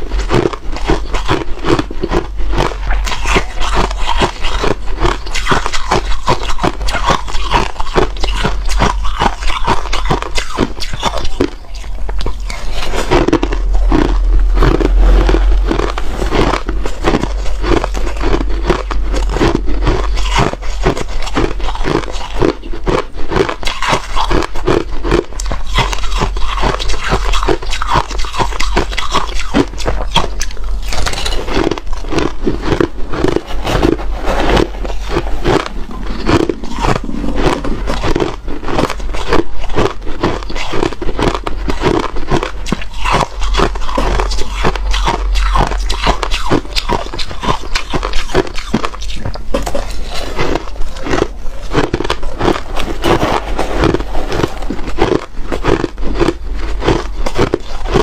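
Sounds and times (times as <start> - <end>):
ice being chewed: 0.0 - 58.0
low steady hum: 0.0 - 58.0.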